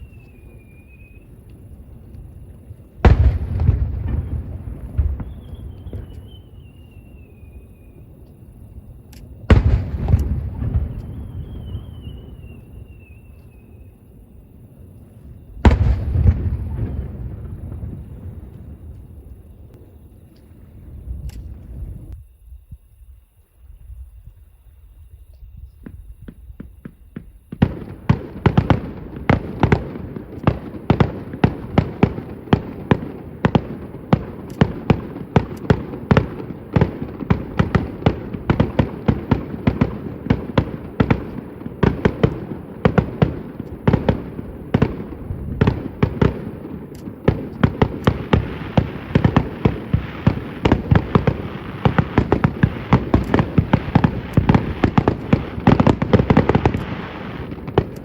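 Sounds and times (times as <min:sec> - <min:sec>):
fireworks bursting: 0:00.0 - 0:22.2, 0:25.8 - 0:58.0.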